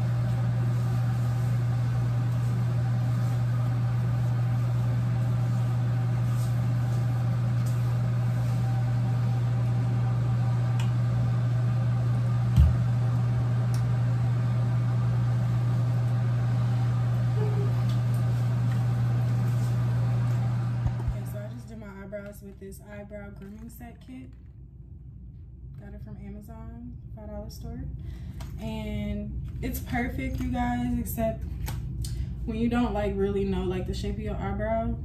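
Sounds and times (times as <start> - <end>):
low motor hum: 0.0 - 35.0.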